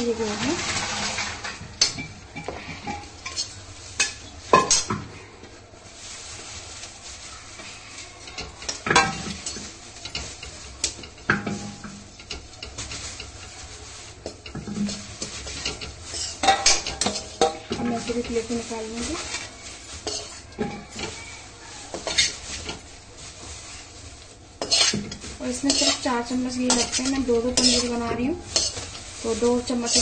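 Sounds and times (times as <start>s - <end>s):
seeds sizzling and crackling: 0.0s - 30.0s
spoon stirring and scraping pan: 0.0s - 30.0s.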